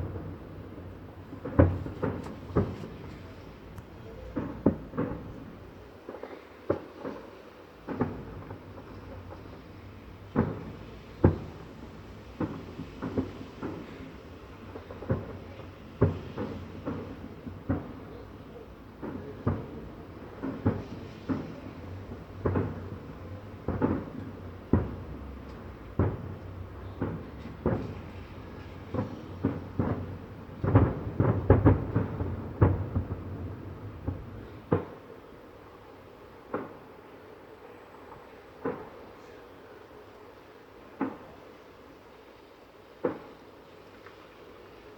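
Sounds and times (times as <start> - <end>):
fireworks booming: 0.0 - 42.0, 42.9 - 44.9.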